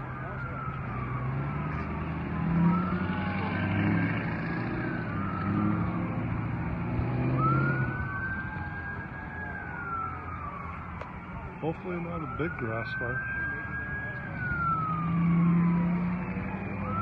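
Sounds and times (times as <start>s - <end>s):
sirens wailing: 0.0s - 17.0s.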